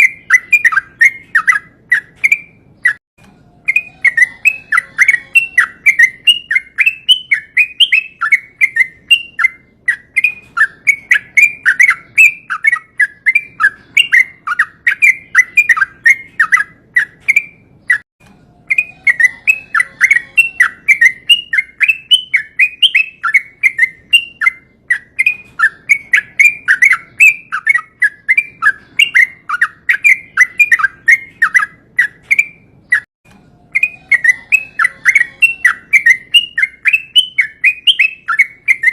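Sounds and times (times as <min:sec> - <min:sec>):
bird singing bubbly chirps: 0:00.0 - 0:03.0, 0:03.7 - 0:18.0, 0:18.7 - 0:33.1.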